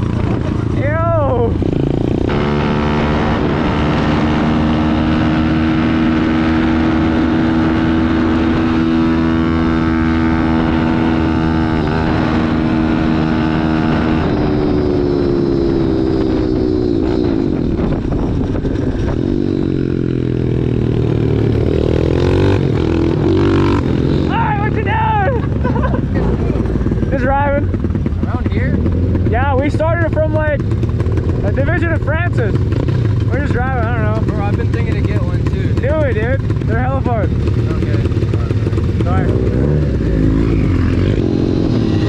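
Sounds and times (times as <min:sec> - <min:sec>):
motorbike engine running: 0:00.0 - 0:42.0.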